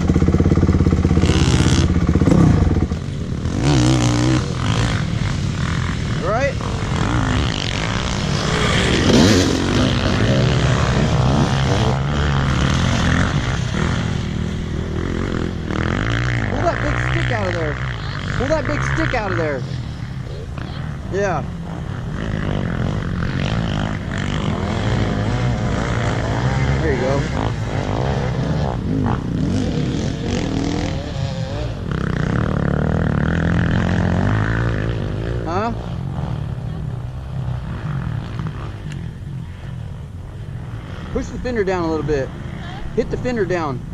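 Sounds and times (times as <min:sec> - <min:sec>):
dirt bike engine running: 0:00.0 - 0:43.9.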